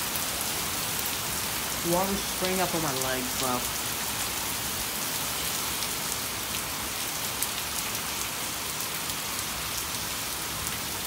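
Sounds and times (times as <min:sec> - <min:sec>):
heavy rain pouring: 0:00.0 - 0:11.0
sharp ticks of raindrops: 0:00.1 - 0:11.0.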